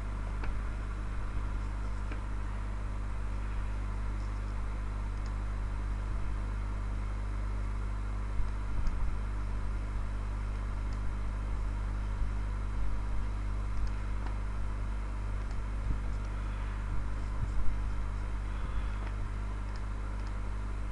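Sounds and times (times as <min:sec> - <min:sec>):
low hum and hiss: 0:00.0 - 0:20.9.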